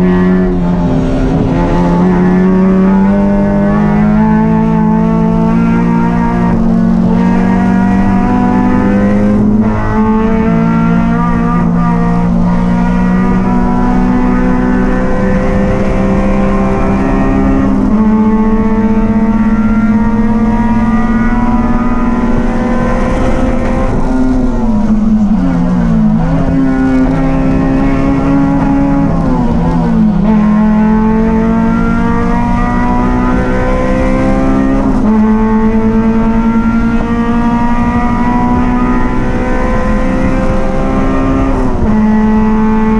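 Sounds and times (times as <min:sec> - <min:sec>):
race car engine at high revs: 0:00.0 - 0:42.9.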